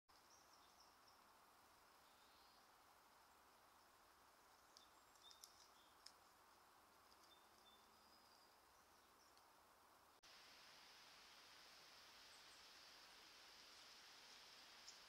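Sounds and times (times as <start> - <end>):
faint steady hiss: 0.1 - 15.0.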